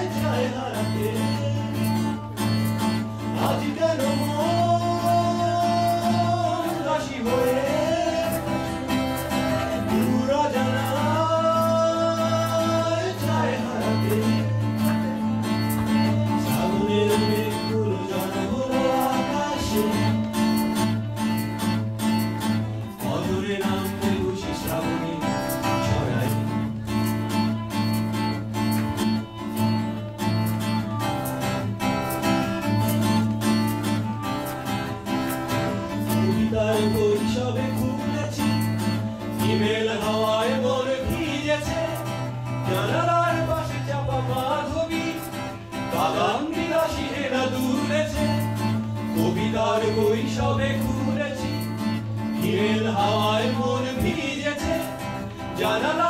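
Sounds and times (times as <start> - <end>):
men singing into microphones: 0.0 - 27.7, 32.4 - 56.0
acoustic guitar: 0.0 - 56.0.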